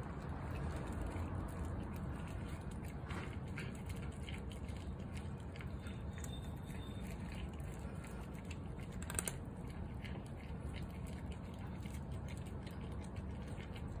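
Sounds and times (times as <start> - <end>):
cats crunching dry kibble: 0.0 - 14.0
low background rumble: 0.0 - 14.0.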